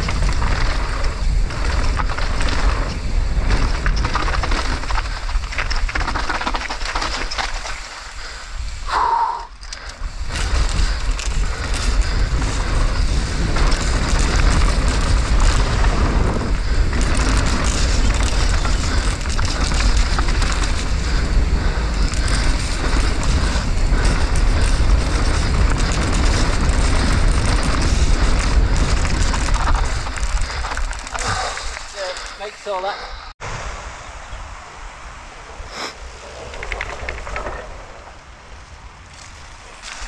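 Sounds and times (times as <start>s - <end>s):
bike rattle: 0.0s - 8.8s, 9.5s - 33.2s, 36.2s - 40.0s
tyre noise on muddy trail: 0.0s - 33.7s, 35.6s - 40.0s
wind buffeting microphone: 0.0s - 40.0s.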